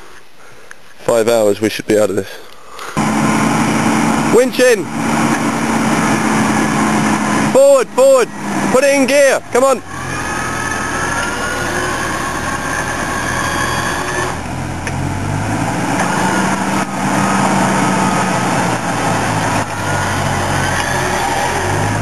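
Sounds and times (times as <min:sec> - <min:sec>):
thin steady whine: 0:02.5 - 0:22.0
engine running under load: 0:03.0 - 0:22.0.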